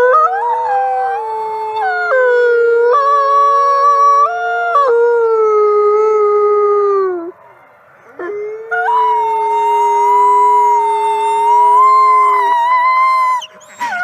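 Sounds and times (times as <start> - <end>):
wolves howling: 0.0 - 7.3, 8.0 - 14.0.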